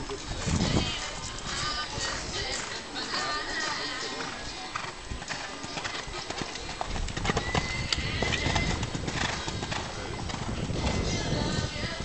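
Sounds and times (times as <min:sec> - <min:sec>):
horse hoofbeats on sand: 0:00.3 - 0:12.0.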